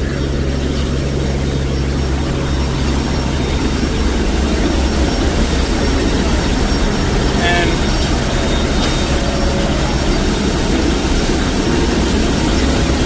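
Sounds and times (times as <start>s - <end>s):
aircraft engines droning: 0.0s - 13.0s
low hum: 0.0s - 13.0s
rushing air: 0.3s - 13.0s.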